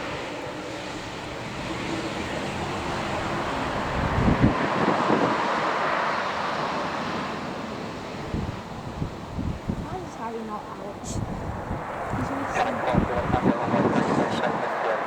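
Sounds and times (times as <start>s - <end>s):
aircraft engine noise: 0.0s - 15.0s
wind buffeting microphone: 0.0s - 15.0s.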